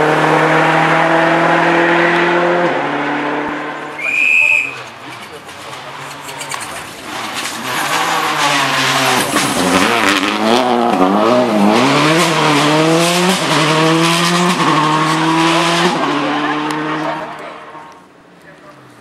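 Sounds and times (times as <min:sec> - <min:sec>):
rally car engine revving: 0:00.0 - 0:04.0, 0:04.9 - 0:18.1.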